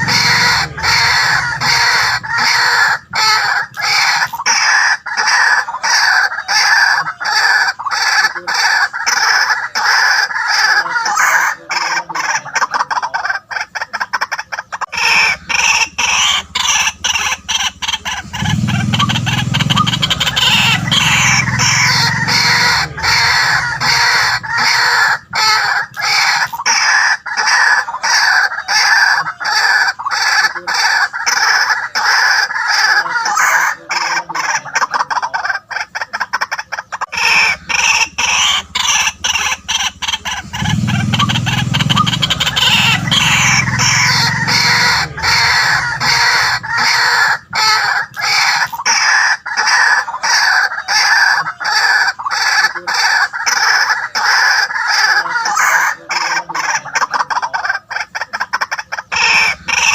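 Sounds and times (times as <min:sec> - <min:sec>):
waterhen calling harshly: 0:00.0 - 0:59.9.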